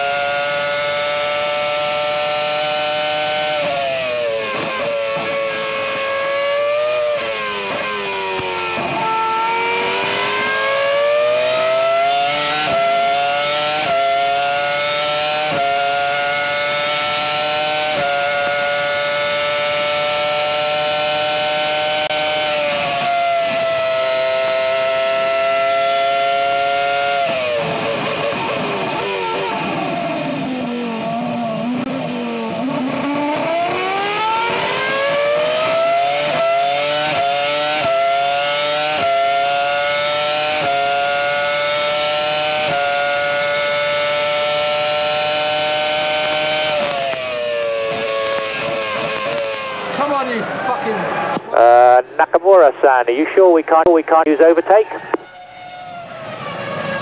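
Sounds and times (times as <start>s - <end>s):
racing car engine at high revs: 0.0s - 57.0s.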